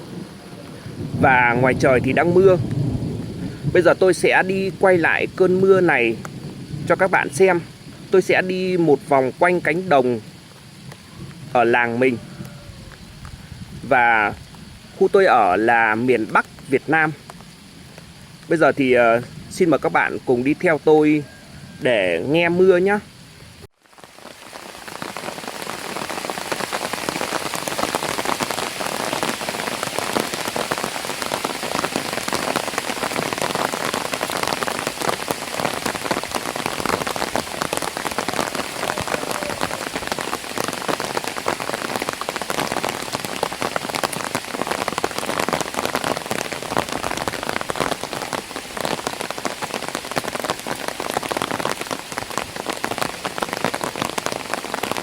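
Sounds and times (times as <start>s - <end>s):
rain on an umbrella: 0.0s - 55.0s.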